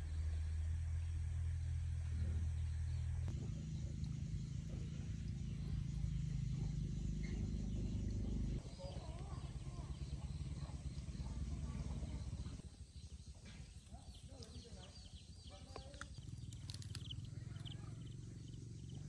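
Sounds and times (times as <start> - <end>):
low steady rumble: 0.0 - 19.0
faint bird calls: 2.2 - 19.0.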